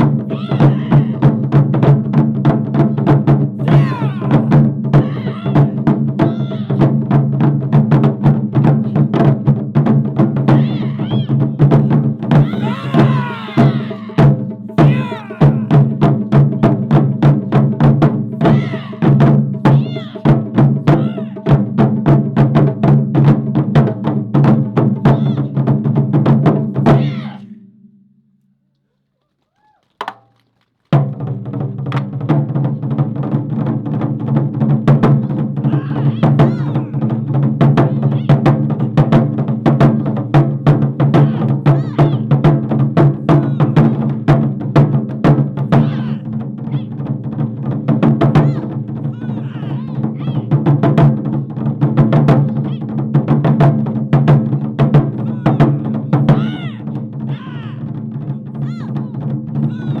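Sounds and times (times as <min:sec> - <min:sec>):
taiko drums: 0:00.0 - 0:27.6, 0:30.0 - 1:00.0.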